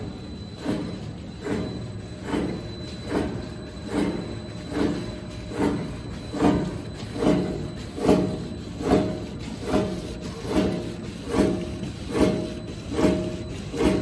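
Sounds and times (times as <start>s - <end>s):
mechanical pulses of wrapping machine: 0.0s - 14.0s
steady machine hum: 0.0s - 14.0s.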